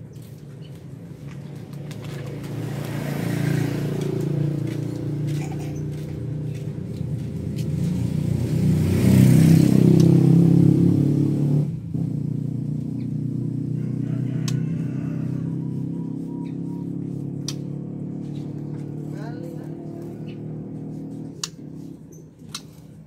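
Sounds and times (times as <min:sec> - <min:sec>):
engine running with low hum: 0:00.0 - 0:23.0.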